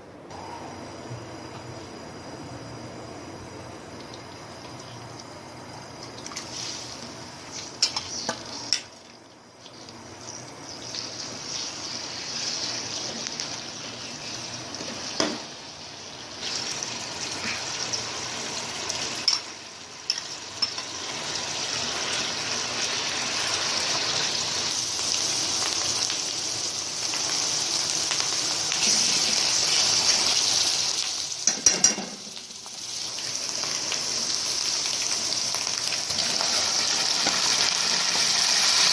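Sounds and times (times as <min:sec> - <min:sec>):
food sizzling in hot oil: 0:03.8 - 0:38.9.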